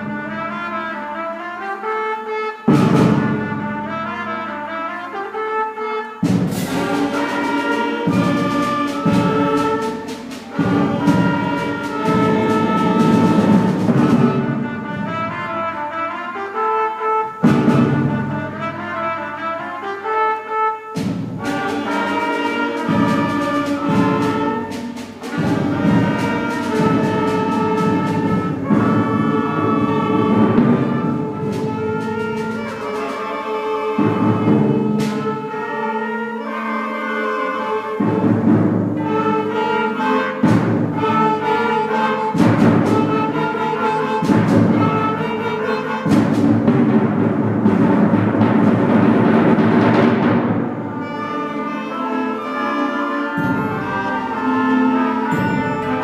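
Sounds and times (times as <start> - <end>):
wind and brass chords: 0.0 - 56.0
timpani and percussion hits: 2.6 - 4.6, 6.2 - 16.2, 17.1 - 56.0.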